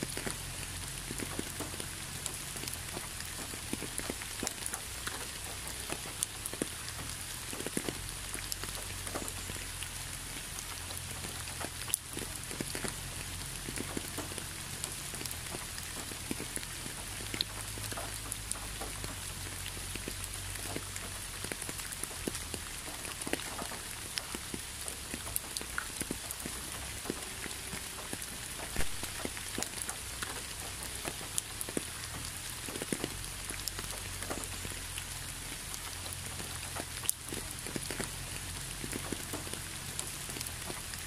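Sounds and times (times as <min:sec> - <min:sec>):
raindrops ticking: 0:00.0 - 0:41.0
steady rain hiss: 0:00.0 - 0:41.0.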